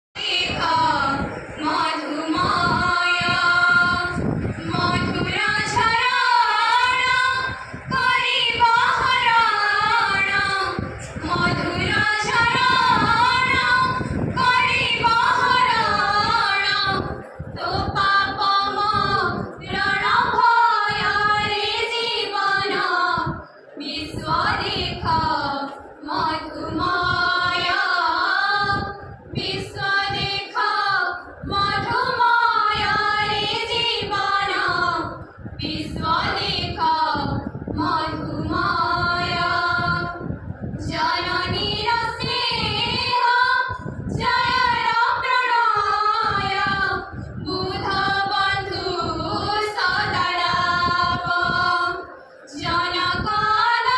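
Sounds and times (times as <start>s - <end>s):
women singing together: 0.2s - 53.9s.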